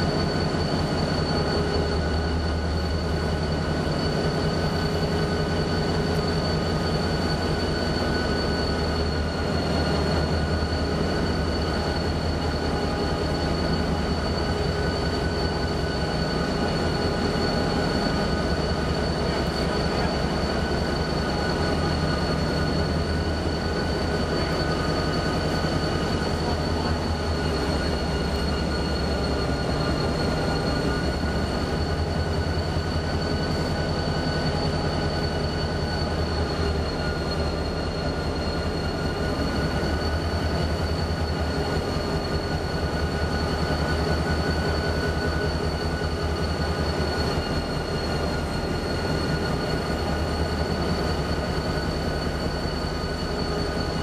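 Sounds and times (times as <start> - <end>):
high whine: 0.0 - 54.0.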